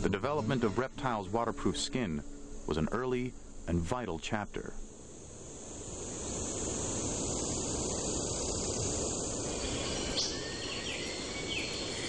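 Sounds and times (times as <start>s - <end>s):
steady rushing noise: 1.1s - 12.0s.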